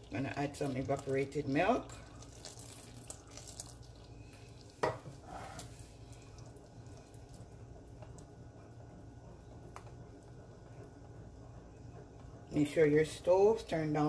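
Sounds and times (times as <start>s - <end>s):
milk pouring into a pot: 0.0s - 12.4s.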